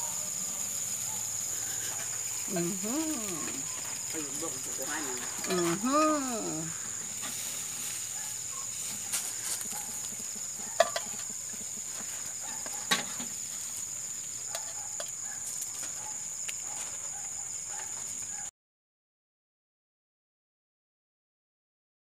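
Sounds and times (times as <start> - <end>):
high-pitched insect trill: 0.0 - 18.5.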